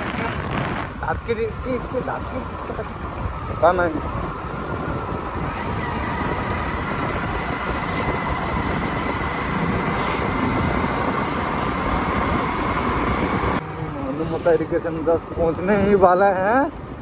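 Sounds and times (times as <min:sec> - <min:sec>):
road vehicle running noise: 0:00.0 - 0:17.0
wind rumbling on microphone: 0:00.0 - 0:17.0.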